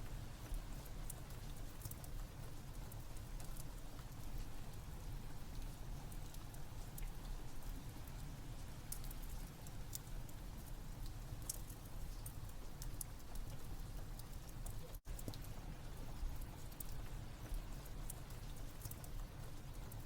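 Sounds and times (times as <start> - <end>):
rain falling: 0.0 - 20.0
wood fire crackling: 0.0 - 20.0.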